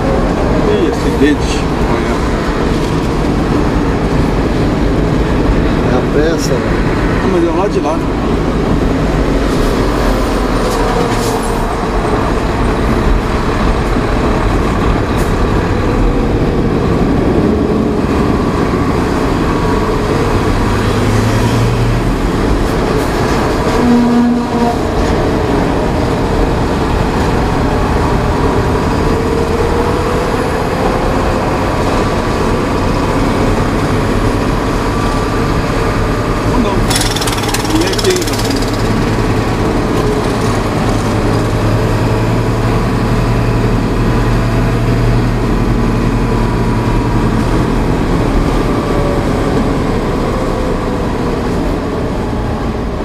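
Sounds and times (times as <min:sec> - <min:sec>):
tyre and road noise: 0:00.0 - 0:53.0
vehicle engine drone: 0:00.0 - 0:53.0.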